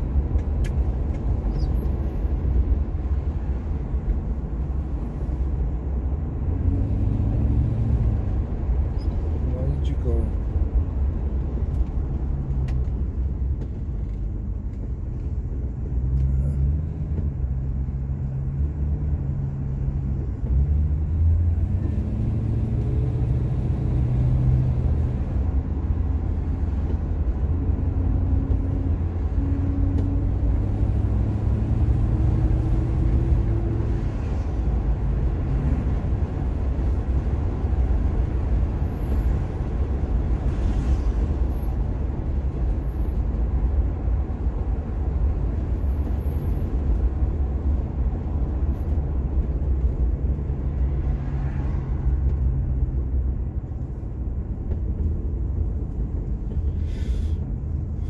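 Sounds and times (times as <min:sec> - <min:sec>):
car engine drone: 0:00.0 - 0:58.0
road rumble: 0:00.0 - 0:58.0.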